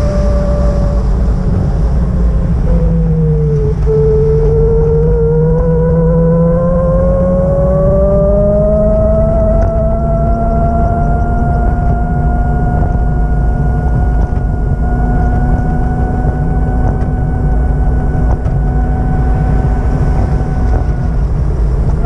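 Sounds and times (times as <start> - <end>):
steady whine: 0.0 - 22.0
vehicle engine low rumble: 0.0 - 22.0.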